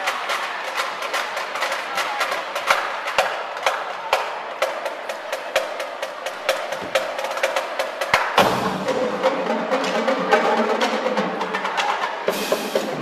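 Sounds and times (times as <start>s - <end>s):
marching drumline playing: 1.1s - 13.0s.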